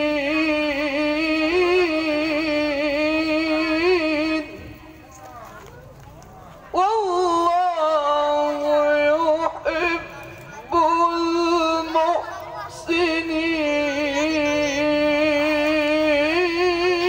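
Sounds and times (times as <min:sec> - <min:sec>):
man chanting into a microphone: 0:00.0 - 0:05.0, 0:06.7 - 0:17.0.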